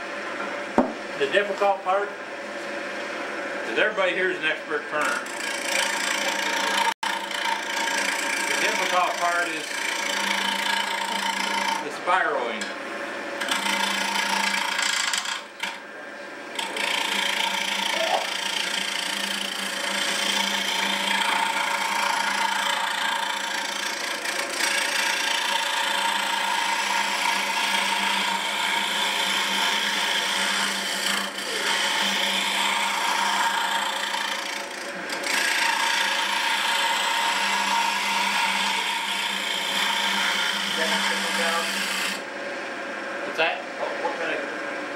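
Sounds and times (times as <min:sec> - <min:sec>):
chisel cutting wood on lathe: 0:03.7 - 0:12.7, 0:13.4 - 0:15.8, 0:16.5 - 0:42.2.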